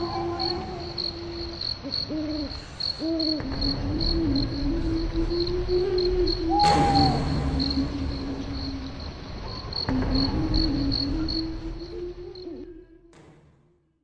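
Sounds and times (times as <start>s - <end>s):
crickets chirping: 0.0s - 13.1s
low steady hum: 0.0s - 13.1s.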